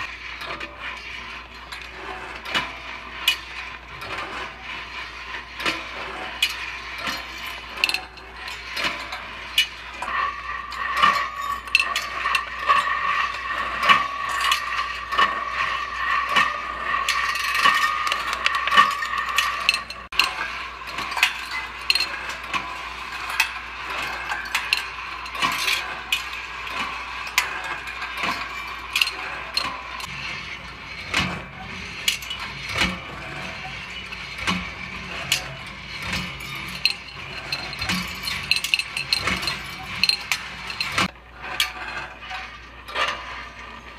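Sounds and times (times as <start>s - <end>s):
steel balls clicking on wire tracks: 0.0s - 43.9s.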